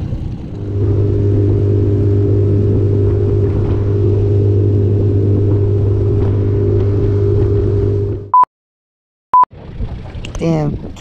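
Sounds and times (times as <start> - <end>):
outboard motor humming: 0.0 - 8.4, 9.6 - 11.0.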